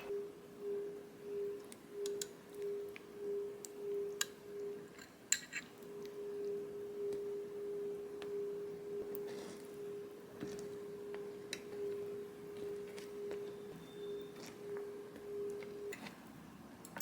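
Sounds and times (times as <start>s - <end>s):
mid-pitched hum: 0.0s - 16.8s.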